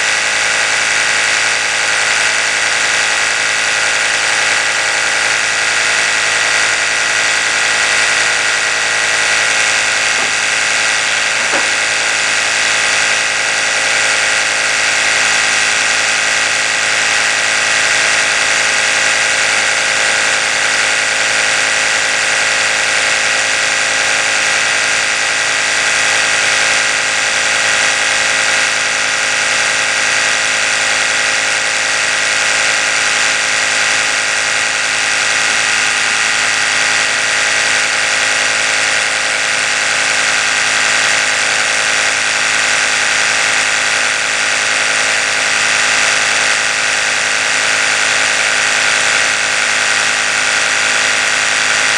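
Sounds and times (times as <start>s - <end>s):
electric toothbrush buzzing: 0.0s - 51.9s.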